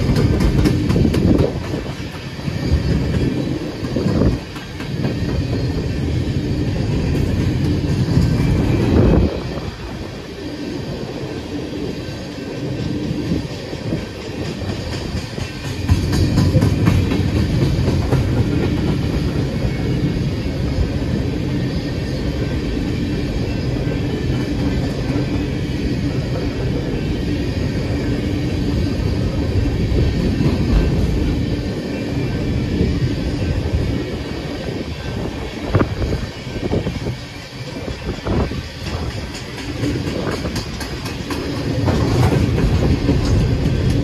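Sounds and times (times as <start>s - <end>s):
freight train wheels rumbling on rail: 0.0s - 44.0s.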